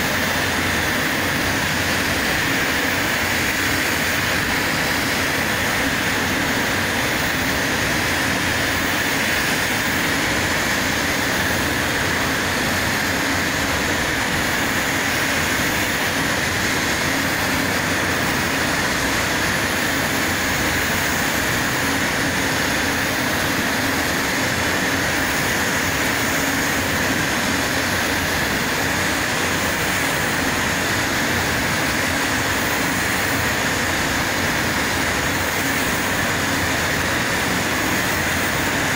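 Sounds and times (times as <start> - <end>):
rushing air hiss: 0.0 - 38.9.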